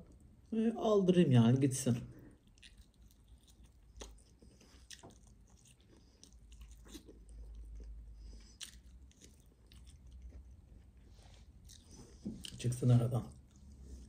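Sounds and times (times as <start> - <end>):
chewing and biting meat: 2.4 - 14.0.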